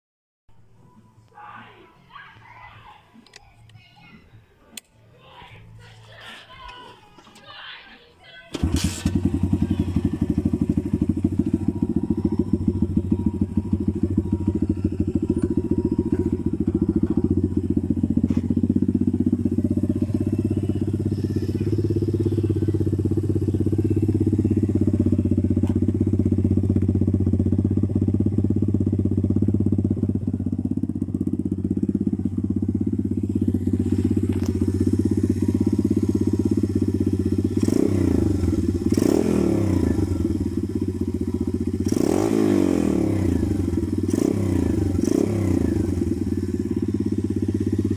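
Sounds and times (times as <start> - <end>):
motorbike engine starting and idling: 8.5 - 47.9.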